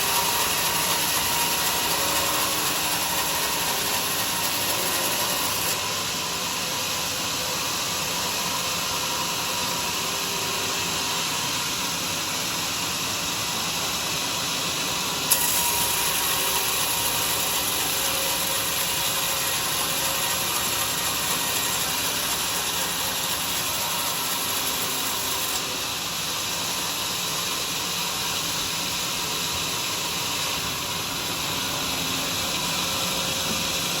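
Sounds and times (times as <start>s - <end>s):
sawmill cutting wood: 0.0s - 34.0s.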